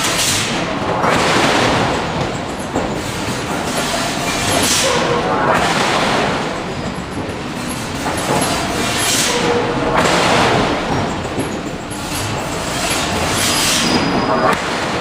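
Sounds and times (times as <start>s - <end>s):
loud industrial machinery din: 0.0s - 15.0s.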